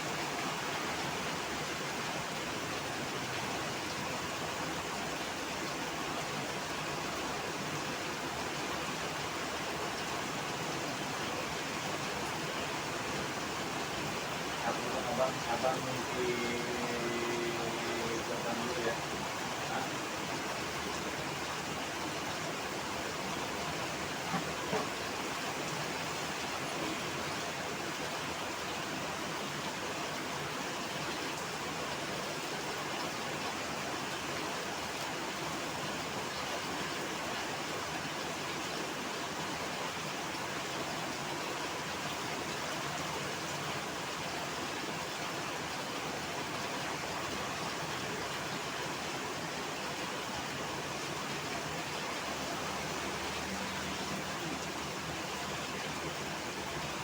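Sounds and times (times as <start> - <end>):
heavy rain hiss: 0.0 - 57.0.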